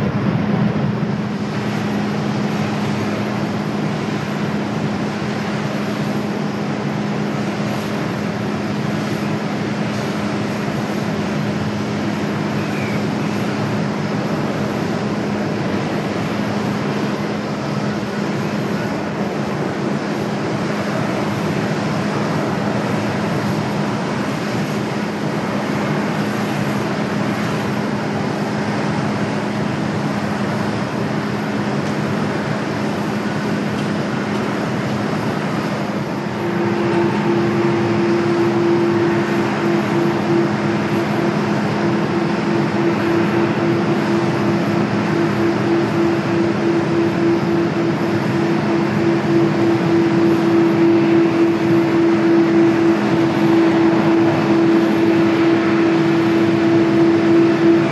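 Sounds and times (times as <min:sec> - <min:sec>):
higher engine tone: 0:00.0 - 0:57.9
jet engines roaring: 0:00.0 - 0:57.9.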